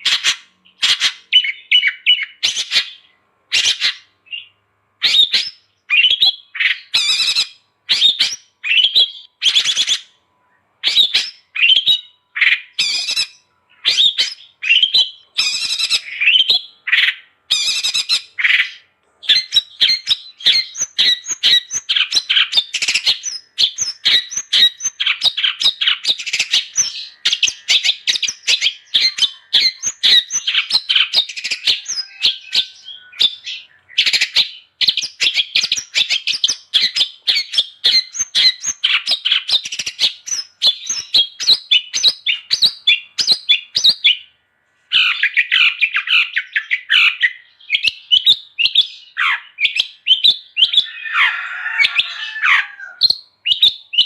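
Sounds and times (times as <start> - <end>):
shrike singing: 0.0 - 44.3.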